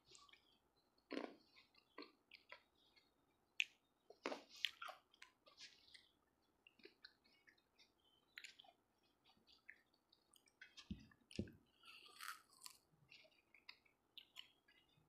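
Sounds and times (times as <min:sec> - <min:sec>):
chewing grapes wet clicks: 0:00.1 - 0:15.0.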